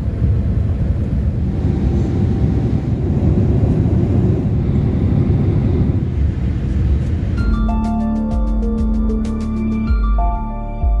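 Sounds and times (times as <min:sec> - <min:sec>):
jet engines rumbling in cabin: 0:00.0 - 0:10.2.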